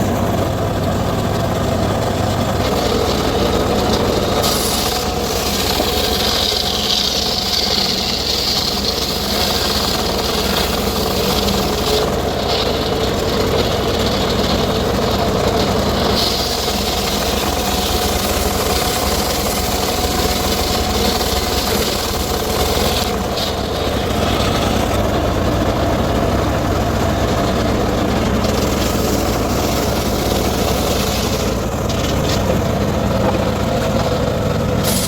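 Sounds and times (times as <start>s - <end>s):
circular saw cutting wood: 0.0s - 35.0s.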